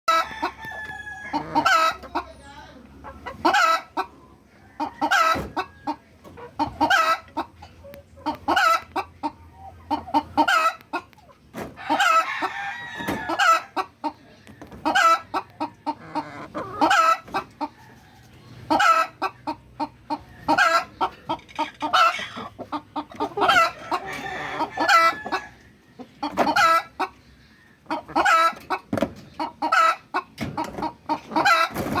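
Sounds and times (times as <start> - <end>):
chicken clucking: 0.1 - 32.0.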